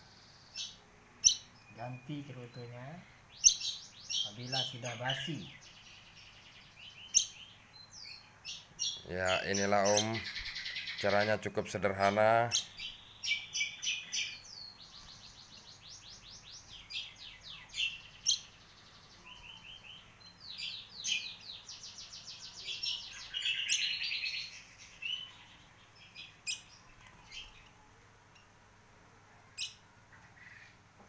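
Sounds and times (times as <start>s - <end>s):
nestlings chirping: 0.0s - 28.6s.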